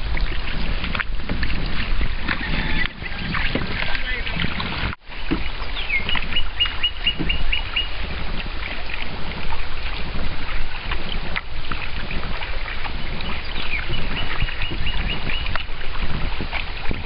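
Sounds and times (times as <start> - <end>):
rushing water: 0.0 - 17.0
wind: 0.0 - 17.0.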